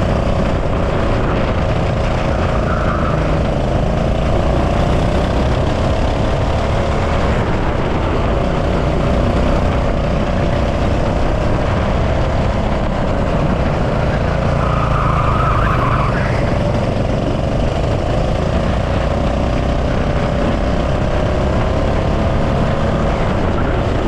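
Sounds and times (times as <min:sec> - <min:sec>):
go-kart engine racing: 0:00.0 - 0:24.0
higher engine note: 0:00.0 - 0:24.0.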